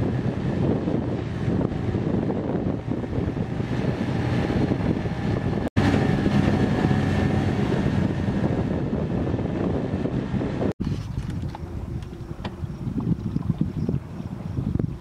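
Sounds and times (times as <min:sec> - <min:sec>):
outboard motor running: 0:00.0 - 0:15.0
wind buffeting microphone: 0:00.0 - 0:15.0.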